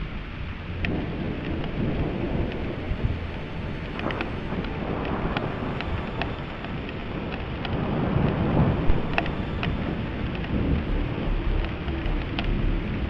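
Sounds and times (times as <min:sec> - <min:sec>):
raindrops ticking: 0:00.0 - 0:13.0
steady rain: 0:00.0 - 0:13.0
thunder rumbling: 0:00.0 - 0:13.0.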